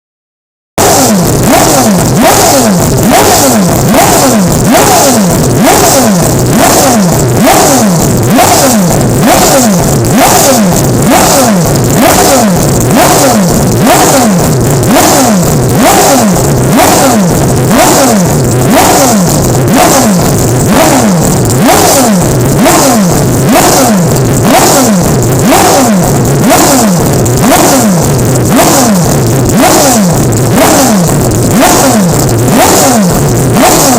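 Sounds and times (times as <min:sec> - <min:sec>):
racing engine revving: 0:00.8 - 0:33.9.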